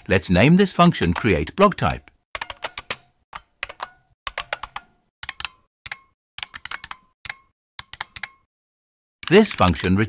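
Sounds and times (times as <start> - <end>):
typing on computer keyboard: 0.8 - 8.5, 9.2 - 10.0.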